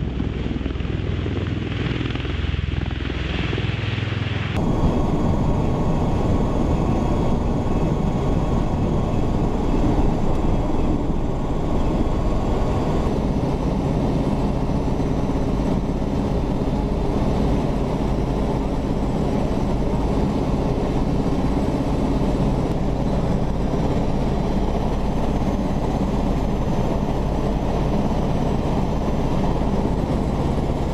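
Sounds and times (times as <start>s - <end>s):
aircraft engines droning: 0.0s - 30.9s
steady hums: 0.0s - 30.9s.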